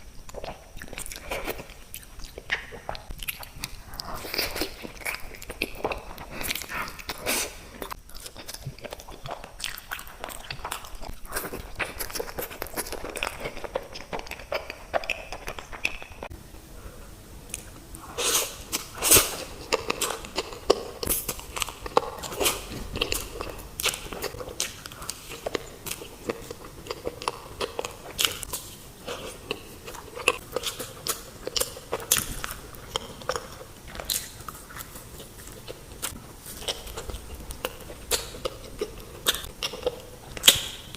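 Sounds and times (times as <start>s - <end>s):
crunchy sweets being chewed: 0.0s - 16.3s, 17.4s - 40.9s.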